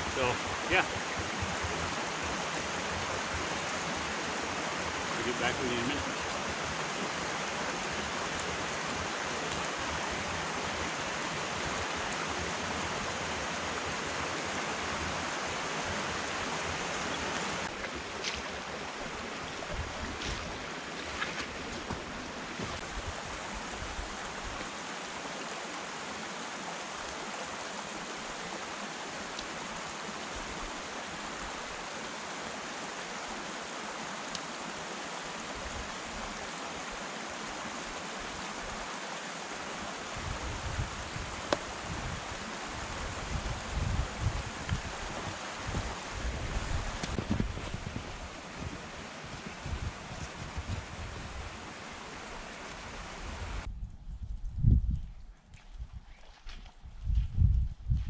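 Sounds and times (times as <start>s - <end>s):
brook water rushing: 0.0s - 53.7s.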